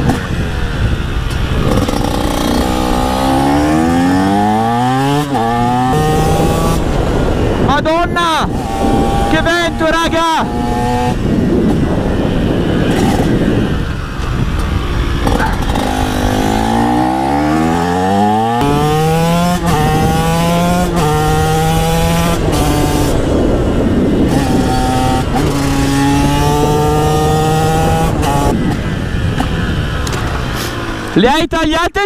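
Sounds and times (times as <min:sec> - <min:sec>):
two-stroke motorcycle engine revving: 0:00.0 - 0:31.2
wind buffeting microphone: 0:00.0 - 0:31.4.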